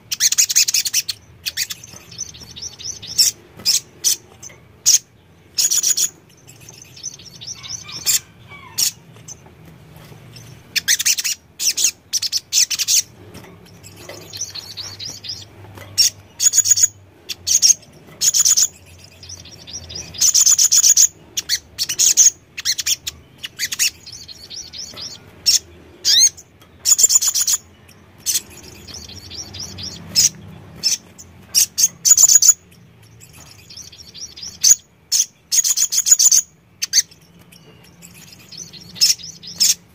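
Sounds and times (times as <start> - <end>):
sunbird high-pitched twittering: 0.0 - 39.9.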